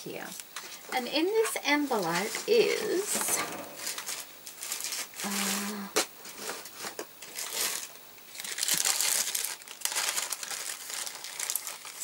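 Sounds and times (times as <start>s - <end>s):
paper envelope crinkling: 1.8s - 12.0s.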